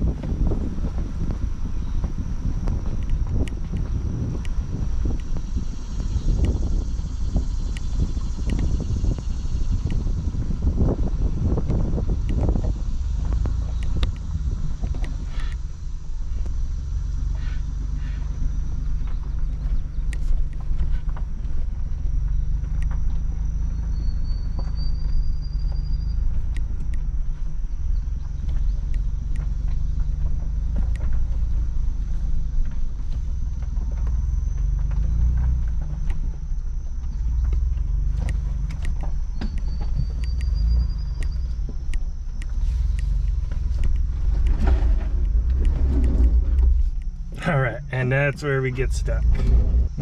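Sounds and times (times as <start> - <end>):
low engine drone: 0.0 - 50.0
stones ticking on car body: 0.2 - 49.3.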